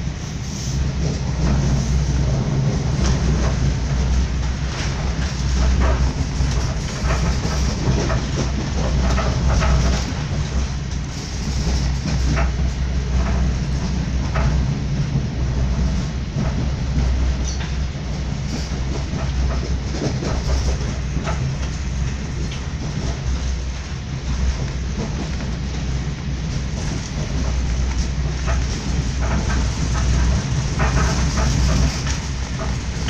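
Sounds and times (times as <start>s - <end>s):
rail joint clicks and knocks: 0.0s - 33.0s
train wheels rumbling on track: 0.0s - 33.0s.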